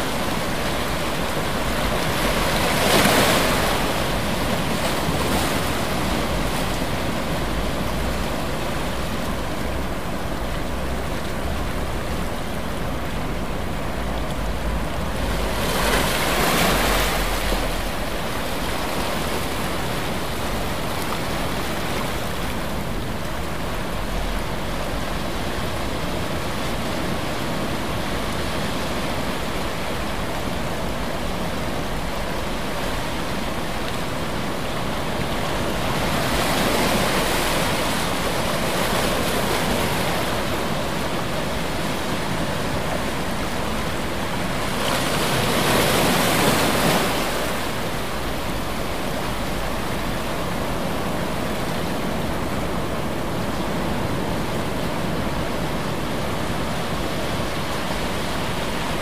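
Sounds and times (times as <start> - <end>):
ocean surf: 0.0 - 59.0.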